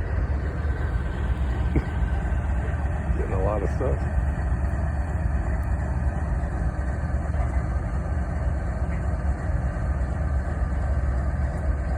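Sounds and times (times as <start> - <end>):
diesel locomotives idling: 0.0 - 11.9.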